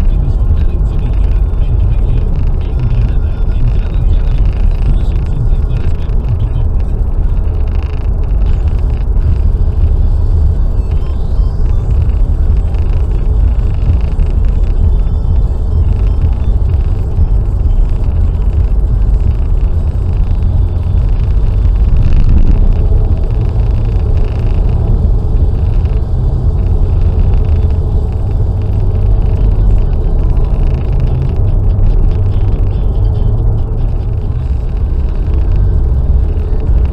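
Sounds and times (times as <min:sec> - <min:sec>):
car driving on motorway: 0:00.0 - 0:36.9.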